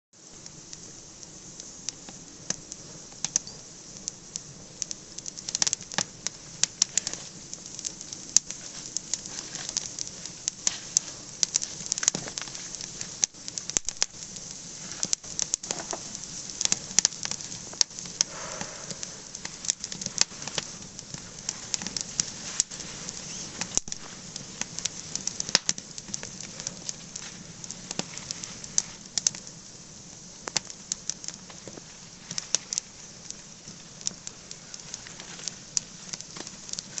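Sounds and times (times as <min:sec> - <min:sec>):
fire crackling and popping: 0:00.2 - 0:37.0
fire hissing: 0:00.2 - 0:37.0.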